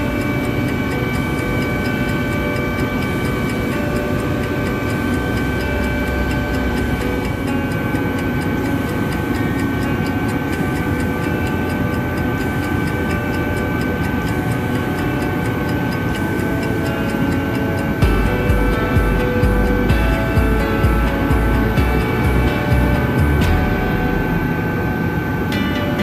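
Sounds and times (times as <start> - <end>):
fast faint ticking: 0.0 - 25.6
constant high whine: 0.0 - 26.0
helicopter engine and rotor drone: 0.0 - 26.0.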